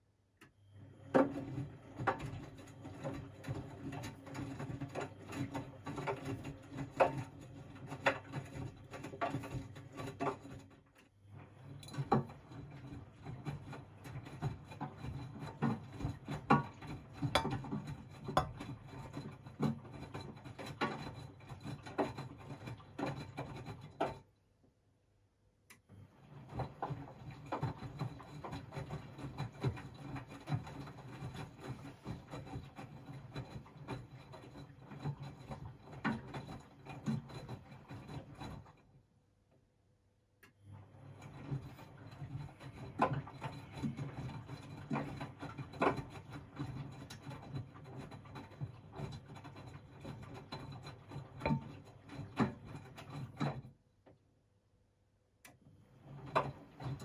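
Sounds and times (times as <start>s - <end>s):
washing machine motor humming: 0.0s - 24.4s, 25.7s - 39.6s, 40.4s - 53.8s, 55.4s - 57.0s.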